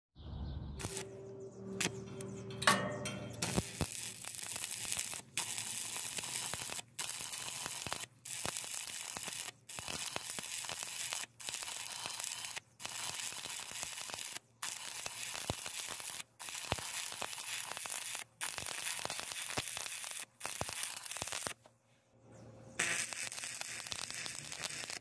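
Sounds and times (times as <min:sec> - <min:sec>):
arc welding crackling sizzle: 0:00.8 - 0:01.1, 0:03.3 - 0:21.6, 0:22.8 - 0:25.0
welding spatter popping: 0:00.8 - 0:01.1, 0:01.8 - 0:21.7, 0:22.8 - 0:25.0.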